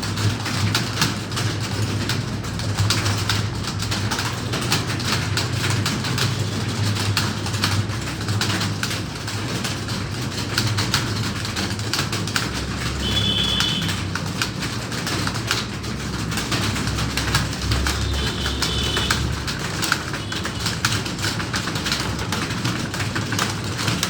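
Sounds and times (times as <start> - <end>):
keyboards clattering: 0.0 - 24.0.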